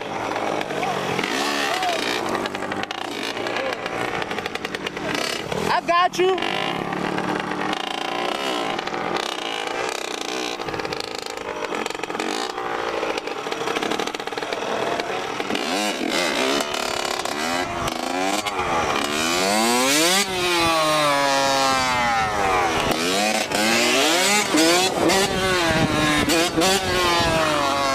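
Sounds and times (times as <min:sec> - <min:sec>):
dirt bike engines revving: 0:00.0 - 0:27.9.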